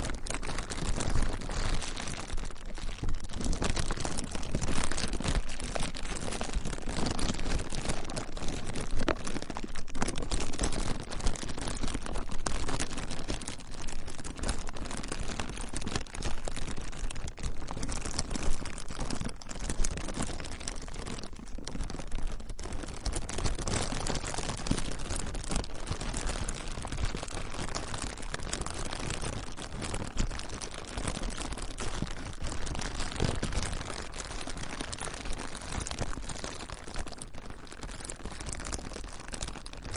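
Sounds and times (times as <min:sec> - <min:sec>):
plastic crinkling: 0:00.0 - 0:39.9.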